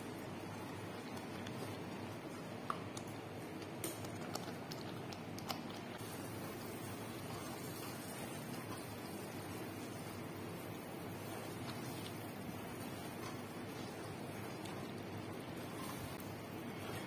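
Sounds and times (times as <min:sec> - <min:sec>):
wet squishing of thick sauce: 0:00.1 - 0:17.0.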